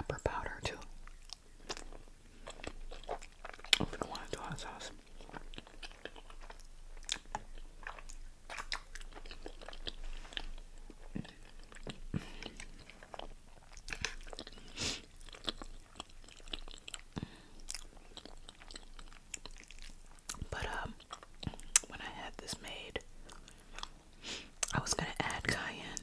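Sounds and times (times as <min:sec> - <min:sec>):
chewing and biting: 0:00.8 - 0:21.9, 0:23.2 - 0:25.4
food crunch: 0:01.1 - 0:21.9.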